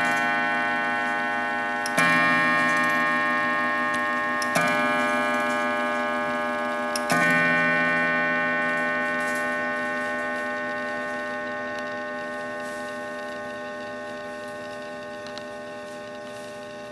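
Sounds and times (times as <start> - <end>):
clock striking: 0.0 - 15.7.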